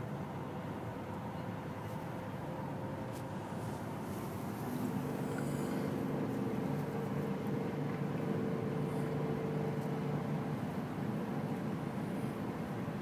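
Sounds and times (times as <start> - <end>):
car engine hum: 0.0 - 13.0
car road noise: 0.0 - 13.0.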